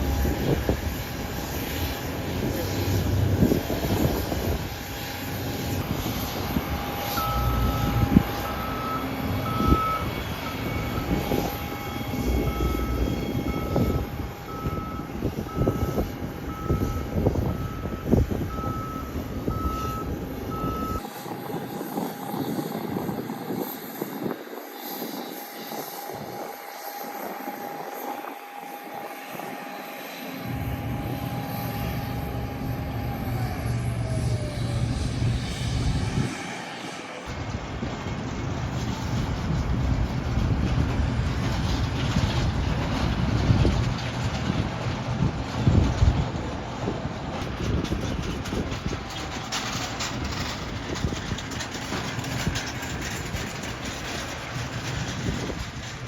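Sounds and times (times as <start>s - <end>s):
airliner engine whine and rumble: 0.0s - 56.0s.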